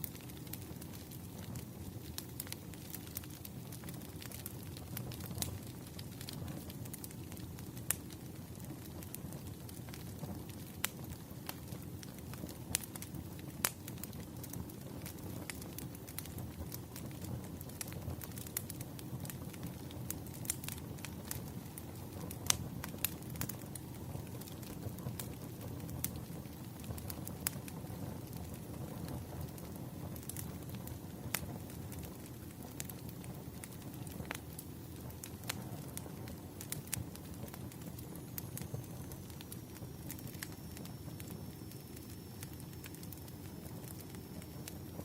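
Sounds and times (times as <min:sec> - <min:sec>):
campfire flames rumbling: 0:00.0 - 0:45.0
fire crackling and popping: 0:00.0 - 0:45.0.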